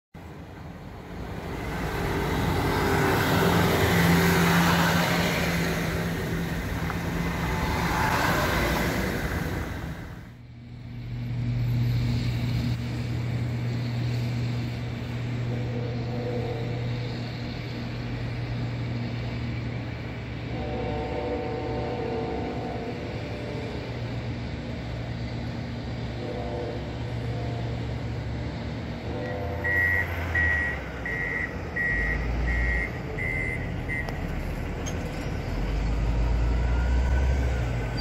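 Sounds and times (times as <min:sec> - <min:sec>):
road noise: 0:00.1 - 0:38.0
snow removal vehicle engine: 0:00.2 - 0:21.8, 0:22.7 - 0:38.0.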